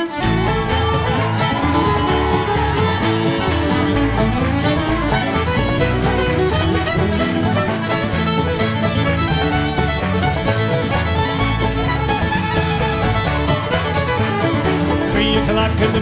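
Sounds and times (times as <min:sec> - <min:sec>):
fiddle playing folk tune: 0:00.0 - 0:16.0
strummed guitar: 0:00.0 - 0:16.0.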